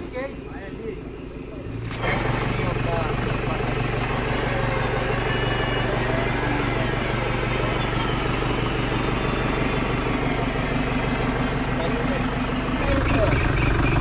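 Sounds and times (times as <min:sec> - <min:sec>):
car engine idling: 0:00.0 - 0:14.0
electric winch motor drone: 0:00.0 - 0:14.0.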